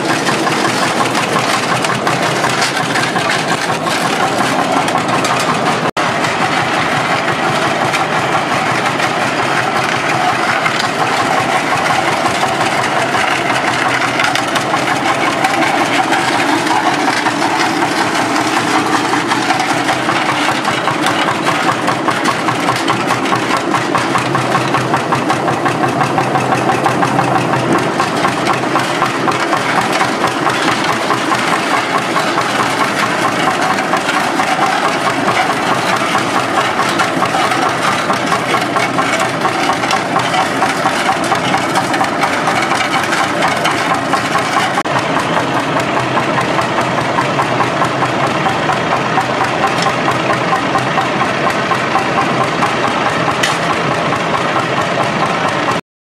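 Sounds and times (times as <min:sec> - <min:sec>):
tractor engine running: 0:00.0 - 0:55.8.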